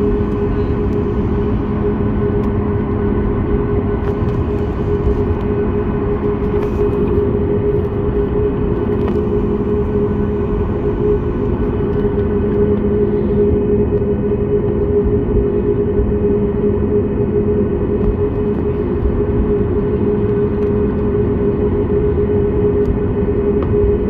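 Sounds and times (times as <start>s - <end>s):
jet engines droning in cabin: 0.0s - 24.0s.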